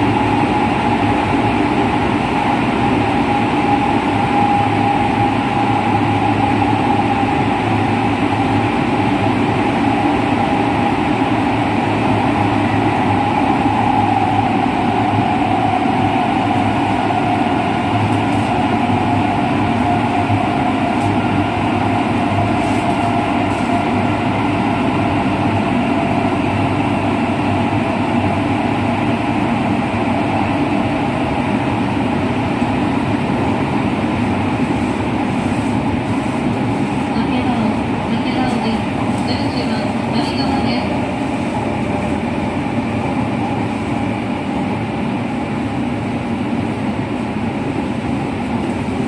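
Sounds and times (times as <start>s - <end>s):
train rail noise: 0.0s - 49.0s.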